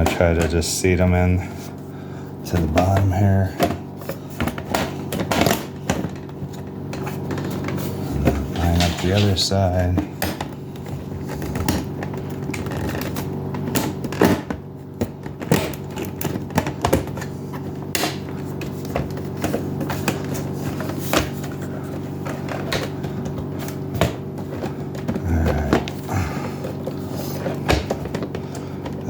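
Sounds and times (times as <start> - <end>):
plastic panels clicking and knocking: 2.5 - 29.0.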